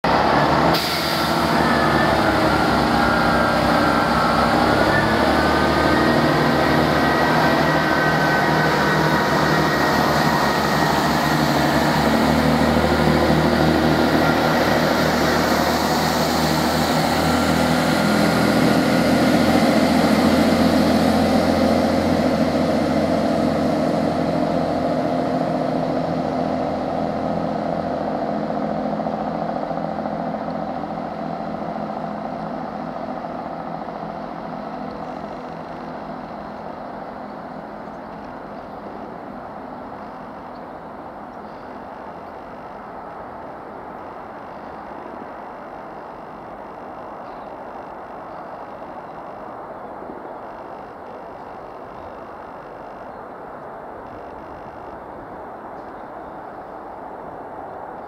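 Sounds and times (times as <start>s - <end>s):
diesel train engines droning: 0.0s - 58.0s.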